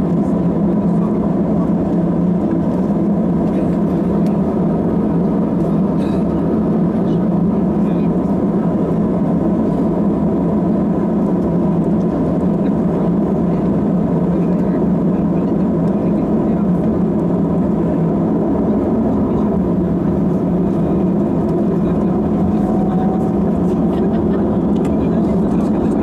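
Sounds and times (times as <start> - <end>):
jet engine drone in cabin: 0.0 - 26.0.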